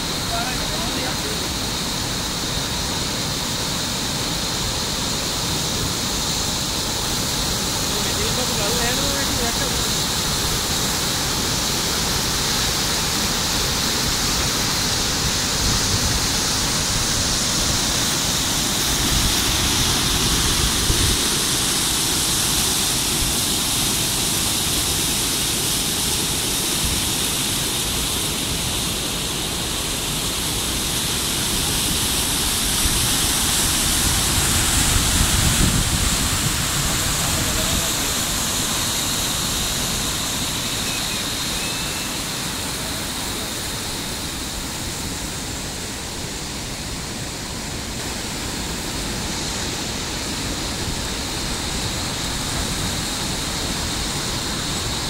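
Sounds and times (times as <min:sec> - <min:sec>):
water rushing over boulders: 0:00.0 - 0:55.0.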